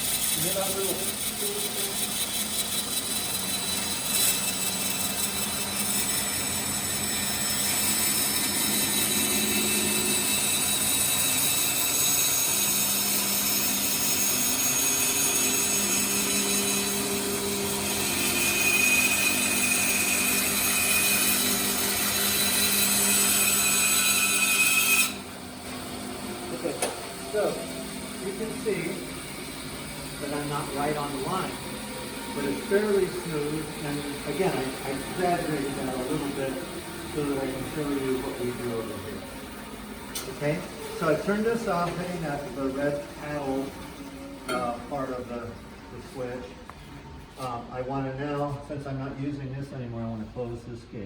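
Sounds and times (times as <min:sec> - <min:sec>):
band saw cutting wood: 0:00.0 - 0:46.2.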